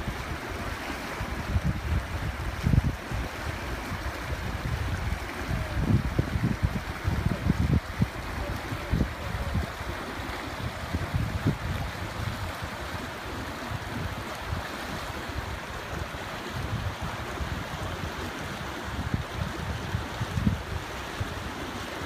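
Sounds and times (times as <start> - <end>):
wind buffeting microphone: 0.0 - 21.7
creek rushing over rocks: 0.0 - 22.0.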